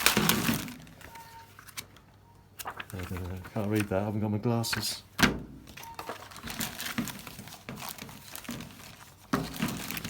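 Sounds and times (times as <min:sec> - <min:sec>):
paper crinkling and rustling: 0:00.0 - 0:04.9, 0:05.7 - 0:10.0.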